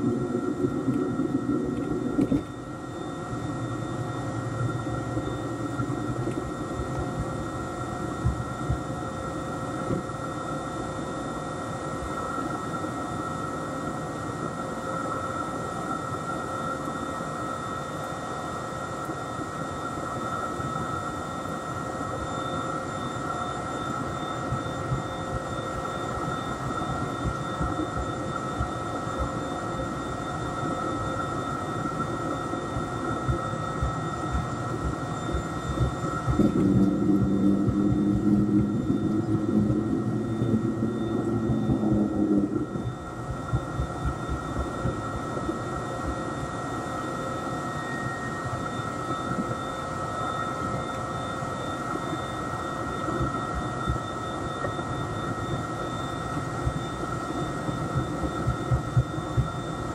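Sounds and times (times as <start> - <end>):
low hum: 0.0 - 16.4, 21.1 - 59.9
jet engine whine and rush: 0.0 - 59.9.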